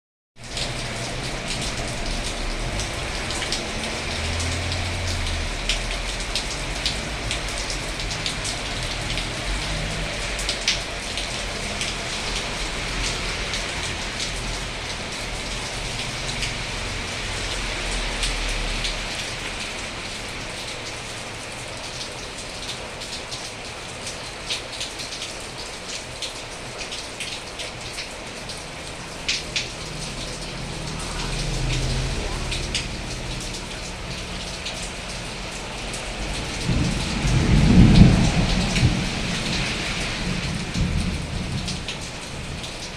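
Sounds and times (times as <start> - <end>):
raindrops clicking close by: 0.4 - 42.9
steady rain falling: 0.4 - 42.9.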